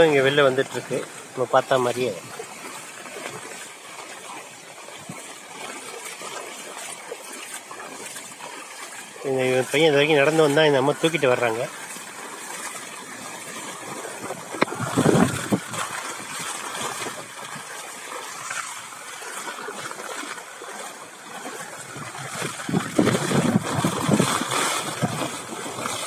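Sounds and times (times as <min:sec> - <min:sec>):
water sloshing: 0:00.0 - 0:26.0
water splashing and trickling: 0:00.0 - 0:26.0.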